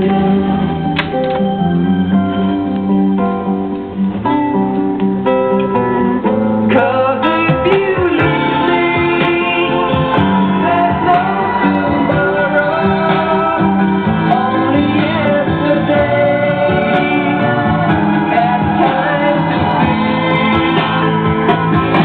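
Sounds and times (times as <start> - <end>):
guitar song with singing: 0.0 - 22.0.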